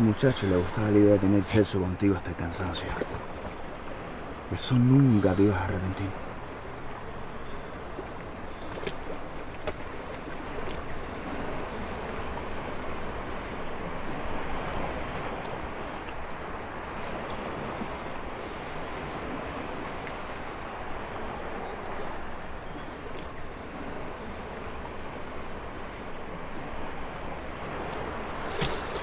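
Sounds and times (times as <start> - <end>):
sea waves: 0.0 - 29.0
wind: 0.0 - 29.0.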